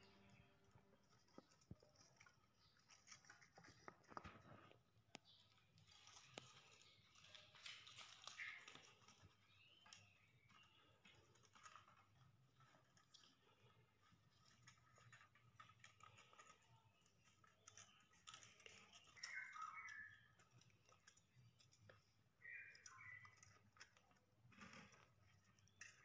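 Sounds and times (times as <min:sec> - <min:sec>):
wire clicking and scraping: 0:00.0 - 0:26.0
scratchy rustles: 0:00.2 - 0:26.0.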